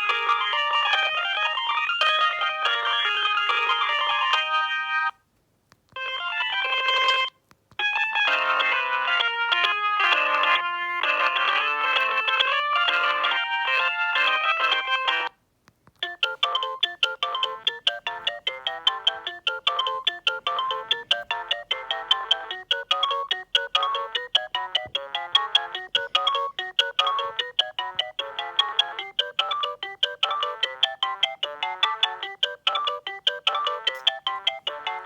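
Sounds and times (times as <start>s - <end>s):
mobile phone ringtone melody: 0.0s - 5.2s, 6.0s - 15.3s, 16.0s - 35.0s.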